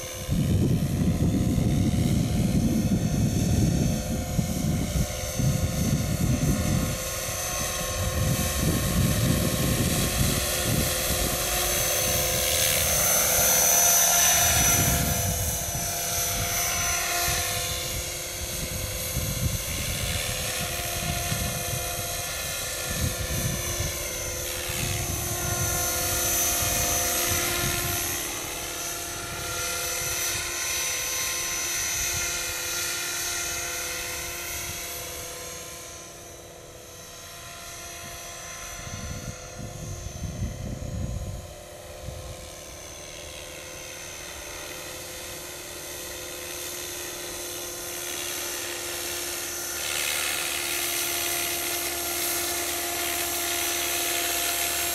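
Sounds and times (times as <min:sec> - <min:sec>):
model helicopter motor whine: 0:00.0 - 0:54.9.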